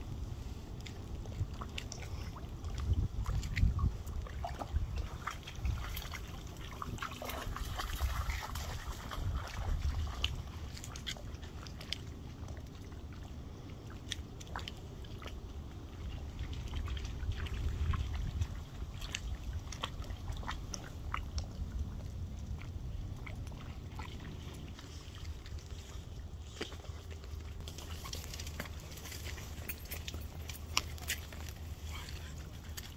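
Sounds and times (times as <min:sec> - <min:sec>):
wind rumbling on microphone: 0:00.0 - 0:32.9.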